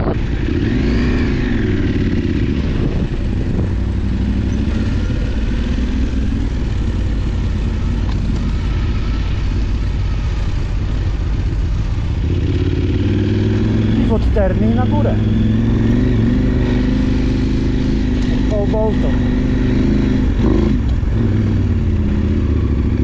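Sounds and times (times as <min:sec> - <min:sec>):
motorcycle engine running: 0:00.0 - 0:23.0
rushing wind noise: 0:00.0 - 0:23.0.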